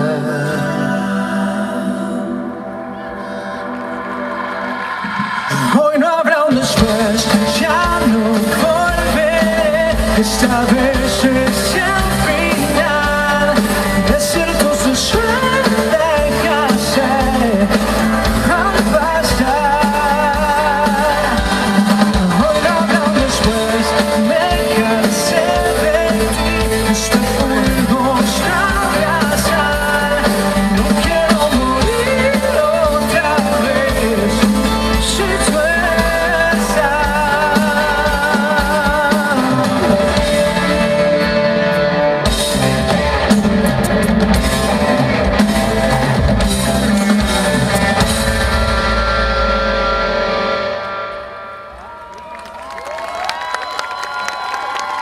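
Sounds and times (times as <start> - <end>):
person singing: 0.0 - 48.6
pop-rock music: 0.0 - 55.0.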